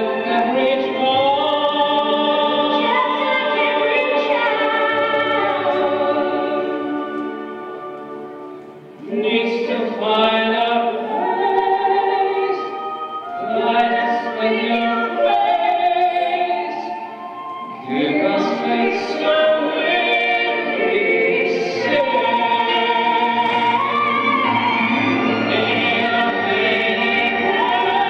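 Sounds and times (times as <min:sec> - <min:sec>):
choir singing held notes: 0:00.0 - 0:28.0.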